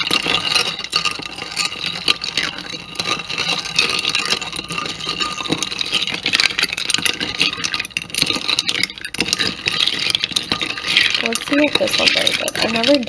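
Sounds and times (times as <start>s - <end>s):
ice cubes clinking against spoon: 0.0s - 13.0s.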